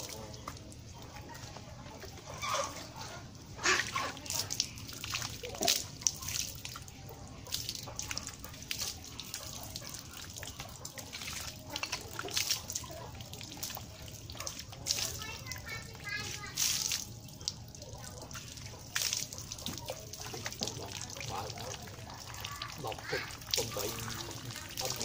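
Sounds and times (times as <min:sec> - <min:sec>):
water splashing and dripping: 0:00.0 - 0:25.0.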